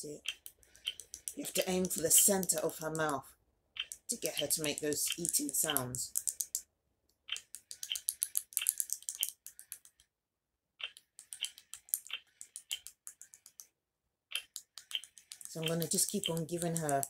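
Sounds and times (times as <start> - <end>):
toy doll crunchy chewing clicks: 0.2 - 3.1, 3.8 - 6.6, 7.3 - 10.0, 10.8 - 13.6, 14.3 - 17.0.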